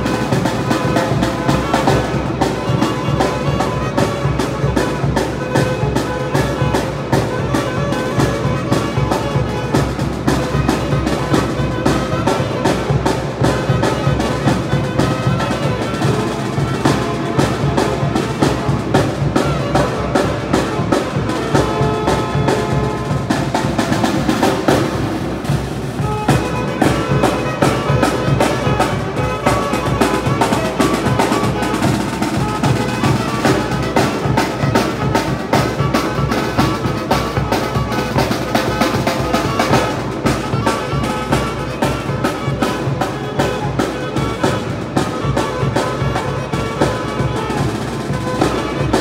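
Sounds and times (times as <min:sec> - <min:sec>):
bass drum and snare beat: 0:00.0 - 0:49.0
saxophone and horns: 0:00.0 - 0:49.0.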